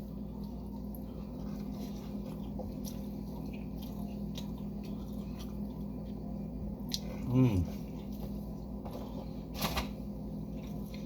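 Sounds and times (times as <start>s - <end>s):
person chewing food: 0.0s - 9.6s.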